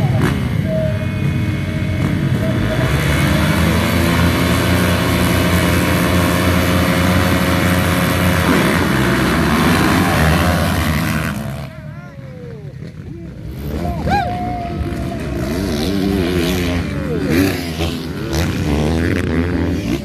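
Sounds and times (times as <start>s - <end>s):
motocross bike engines: 0.0s - 20.0s.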